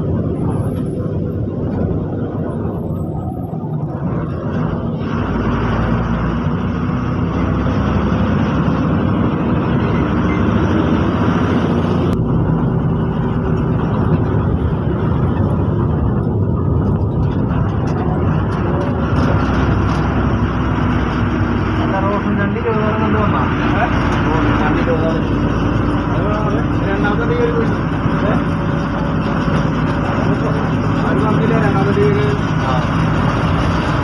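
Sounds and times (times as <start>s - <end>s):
bus engine and road noise: 0.0s - 34.0s.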